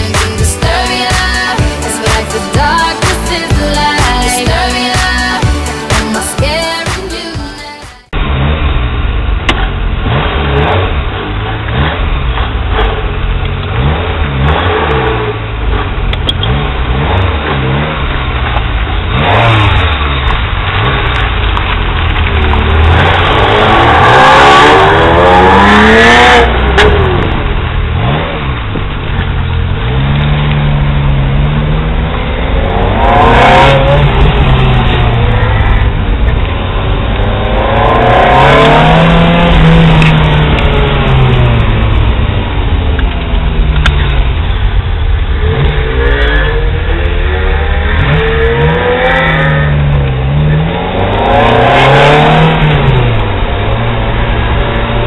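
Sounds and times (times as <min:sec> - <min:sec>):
car engine revving: 0:00.0 - 0:07.3, 0:08.1 - 0:55.0.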